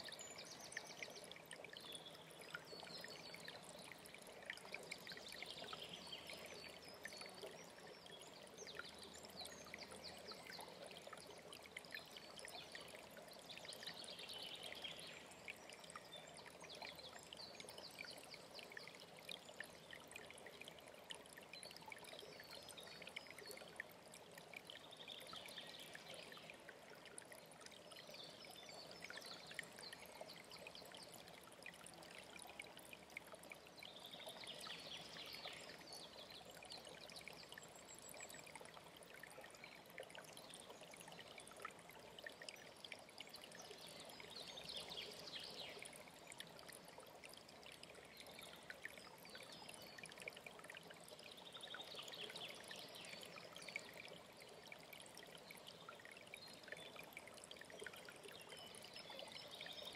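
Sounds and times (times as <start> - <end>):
faint stream running: 0.0 - 59.9.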